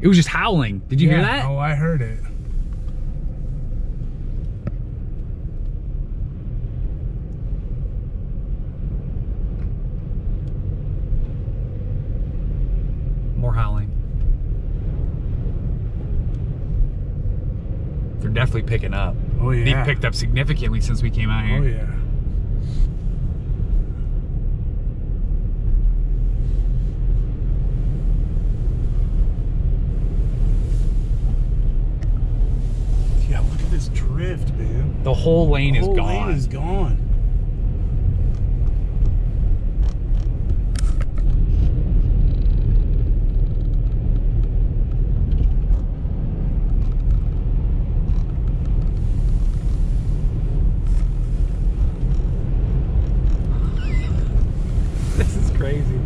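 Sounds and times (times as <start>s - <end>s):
road noise: 0.0s - 56.0s
wind howling around a car: 2.0s - 56.0s.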